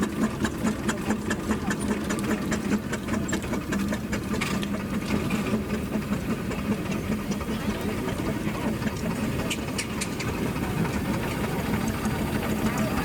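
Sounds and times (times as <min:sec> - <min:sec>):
engine running with clatter: 0:00.0 - 0:13.0.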